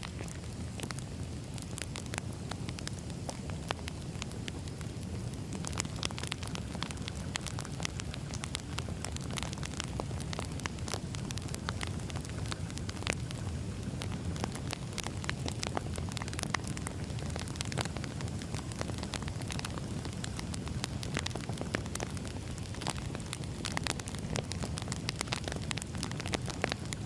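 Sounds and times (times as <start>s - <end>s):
firewood crackling and popping: 0.0s - 27.0s
low rumble of flames: 0.0s - 27.0s.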